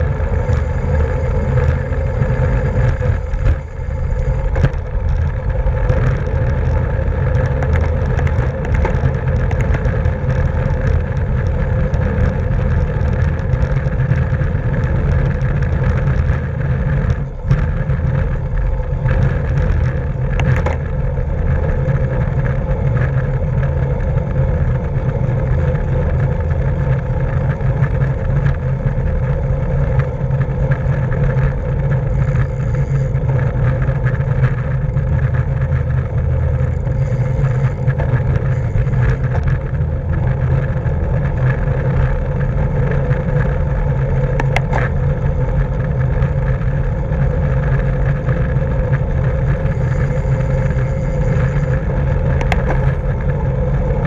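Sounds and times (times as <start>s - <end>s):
road noise: 0.0s - 54.0s
wind rumble on microphone: 0.0s - 54.0s.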